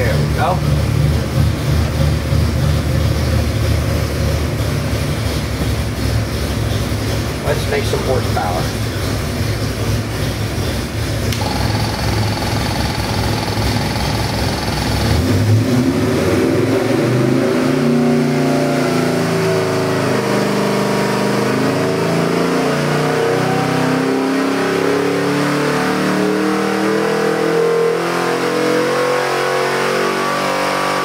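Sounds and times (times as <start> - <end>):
engine revving on a dyno: 0.0 - 31.0.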